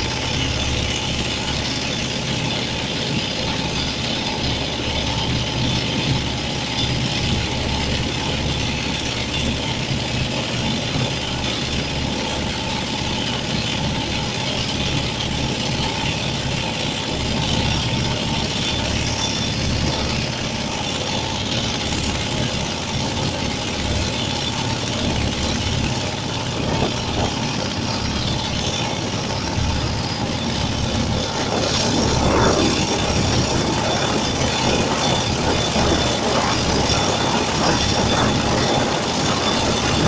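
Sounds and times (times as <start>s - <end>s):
boat engine chugging: 0.0s - 40.0s.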